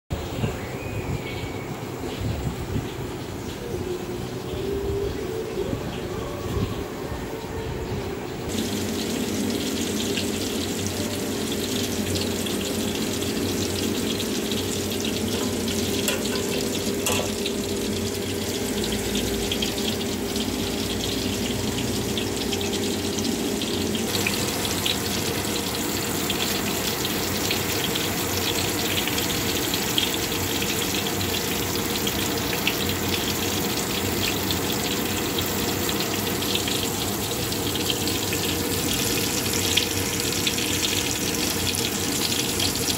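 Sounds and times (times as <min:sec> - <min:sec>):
hot oil sizzling and crackling: 0:08.4 - 0:42.9.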